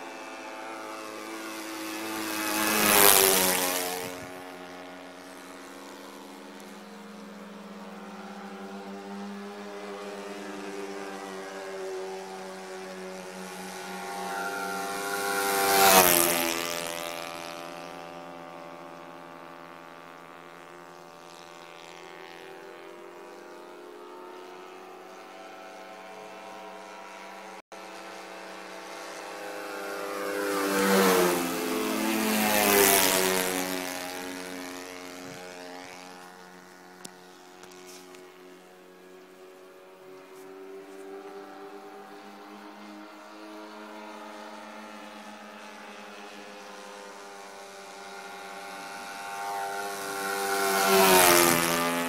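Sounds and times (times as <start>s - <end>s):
aircraft flying by low: 0.0s - 52.0s
propeller aircraft engines droning: 0.0s - 52.0s.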